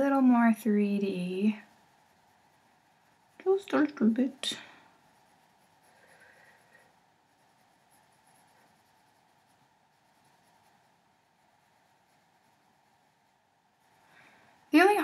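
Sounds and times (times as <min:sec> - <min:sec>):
pencil scratching on paper: 0:00.0 - 0:15.0.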